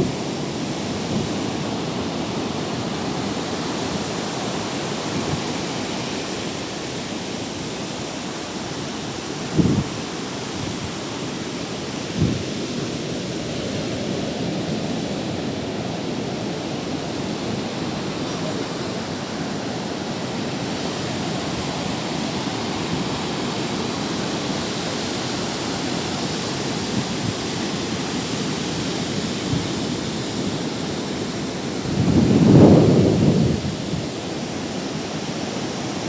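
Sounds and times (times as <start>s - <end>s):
sea waves washing in: 0.0s - 36.0s.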